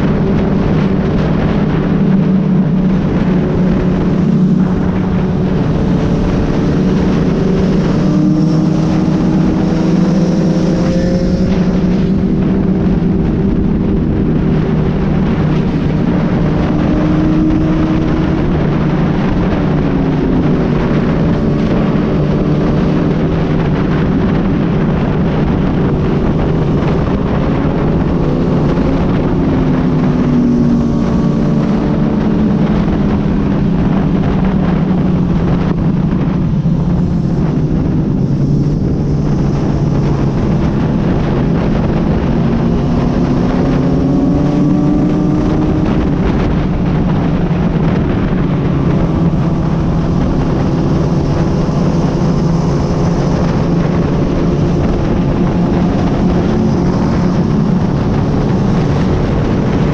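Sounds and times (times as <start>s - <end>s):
motorcycle engine at highway speed: 0.0s - 59.9s
wind rushing over microphone: 0.0s - 59.9s.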